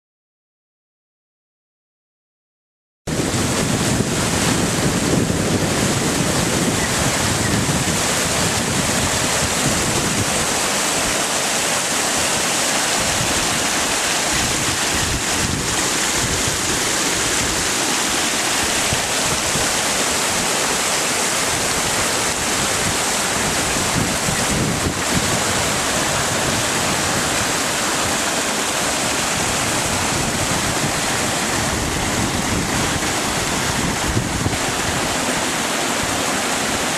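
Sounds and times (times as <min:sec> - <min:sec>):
floodwater rushing: 0:03.1 - 0:36.9.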